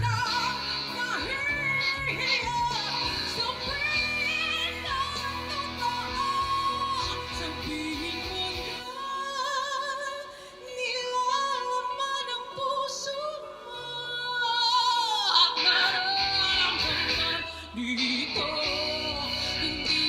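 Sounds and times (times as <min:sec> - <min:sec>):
woman singing a slow ballad: 0:00.0 - 0:20.0.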